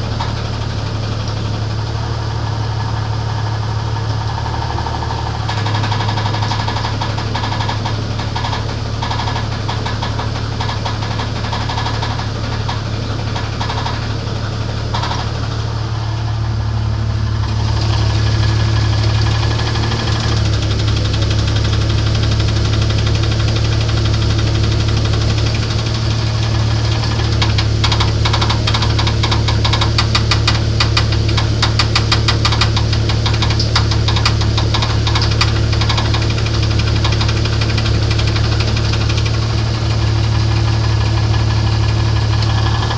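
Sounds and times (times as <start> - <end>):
engine running with rhythmic knock: 0.0 - 42.9.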